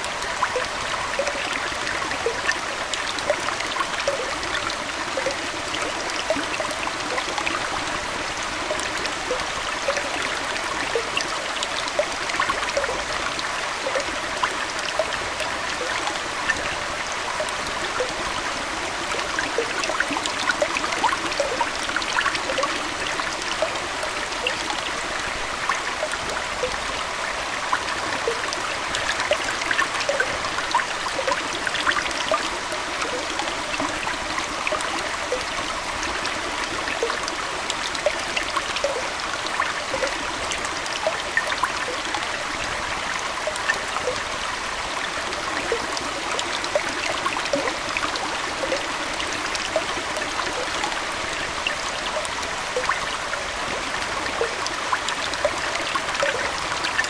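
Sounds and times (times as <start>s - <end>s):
small gurgles and drips: 0.0s - 57.0s
water trickling and bubbling: 0.0s - 57.0s.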